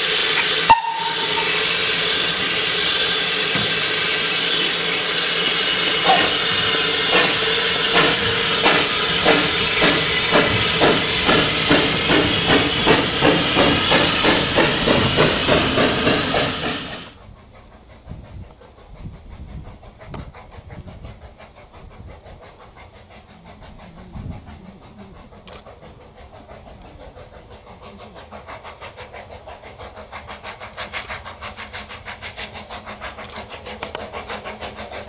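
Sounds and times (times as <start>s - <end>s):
steam hissing: 0.0s - 35.0s
steam locomotive exhaust beats: 0.0s - 35.0s.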